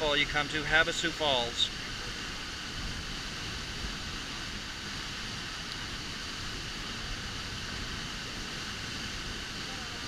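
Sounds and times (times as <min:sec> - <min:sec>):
falling water rushing: 0:00.0 - 0:10.0.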